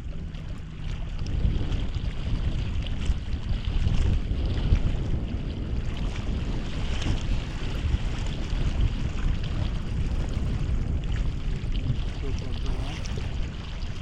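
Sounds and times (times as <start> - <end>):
water lapping against kayak: 0.0 - 14.0
wind buffeting microphone: 0.0 - 14.0.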